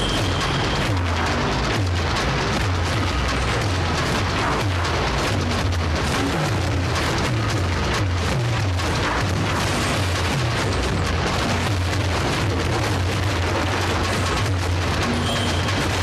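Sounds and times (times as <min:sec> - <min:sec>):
barrel drums beaten fast: 0:00.0 - 0:16.0.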